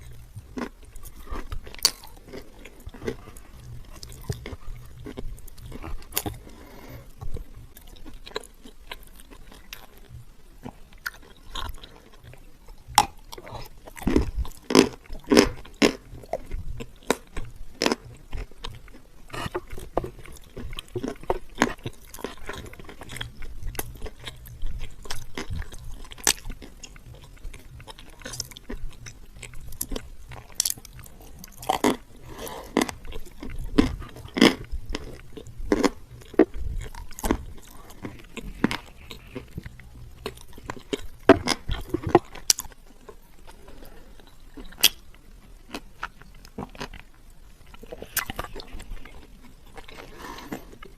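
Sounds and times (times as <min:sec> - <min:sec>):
crunchy biting and chewing: 0:00.0 - 0:50.9.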